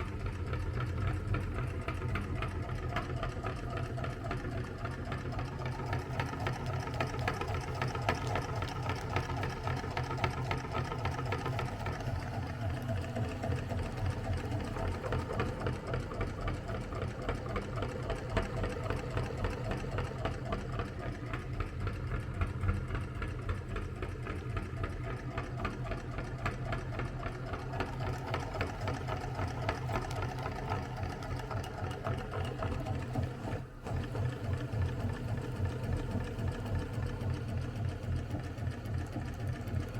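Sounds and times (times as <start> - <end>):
meat grinder motor hum and rattle: 0.0 - 39.9.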